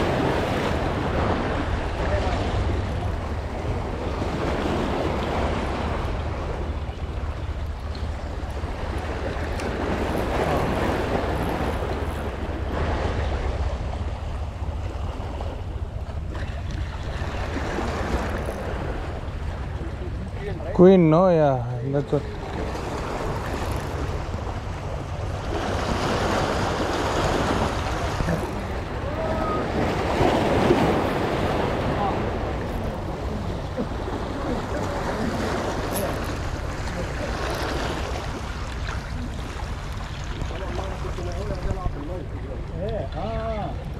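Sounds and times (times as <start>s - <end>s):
wind rumbling on microphone: 0.0s - 20.8s, 21.6s - 43.9s
sea waves breaking on rocks: 0.0s - 43.9s.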